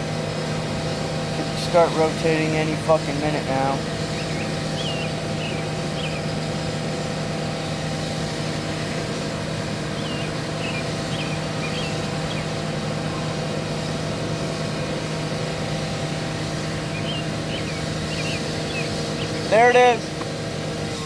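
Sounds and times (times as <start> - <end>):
birds chirping: 0.0 - 21.0
low outdoor hum: 0.0 - 21.0.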